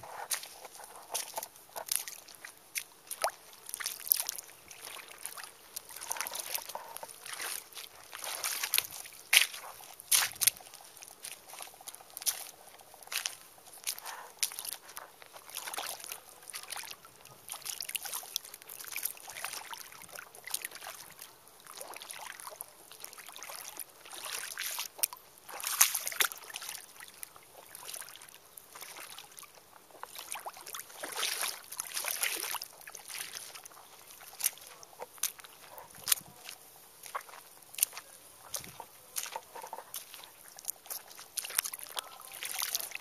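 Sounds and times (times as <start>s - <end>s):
footsteps squelching through mud: 0.0s - 43.0s.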